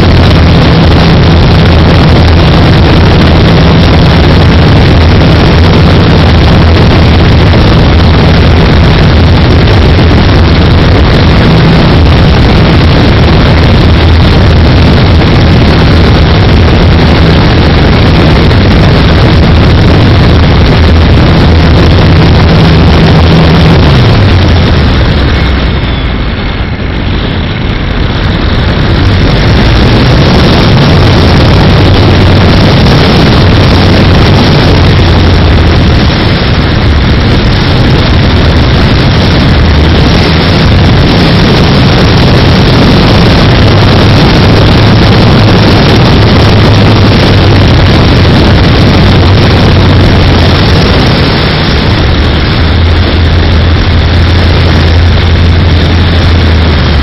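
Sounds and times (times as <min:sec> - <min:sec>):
airflow rushing over camera: 0:00.0 - 0:57.0
low drone: 0:00.0 - 0:57.0.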